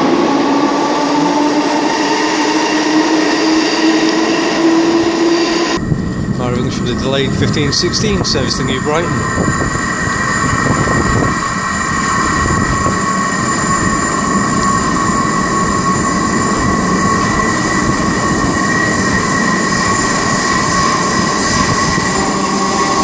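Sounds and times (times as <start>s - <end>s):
wheels rumbling on rail: 0.0s - 23.0s.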